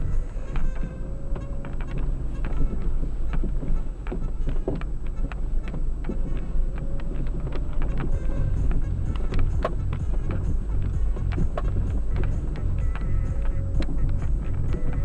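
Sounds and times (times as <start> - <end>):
knocks and rattles on rough track: 0.0 - 15.0
vehicle engine rumbling: 0.0 - 15.0.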